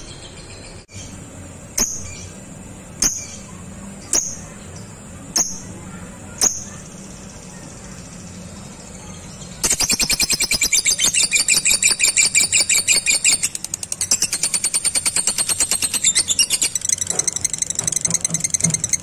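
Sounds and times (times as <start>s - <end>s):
bird chirps: 0.0s - 19.0s
bird chattering trill: 1.8s - 19.0s.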